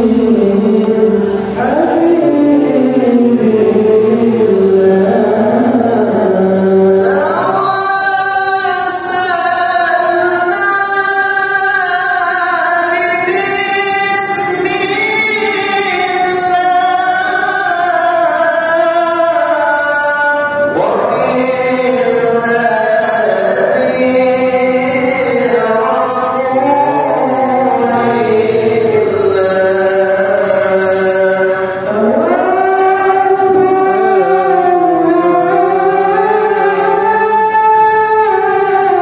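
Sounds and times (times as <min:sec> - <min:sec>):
man chanting melodically: 0:00.0 - 0:39.0.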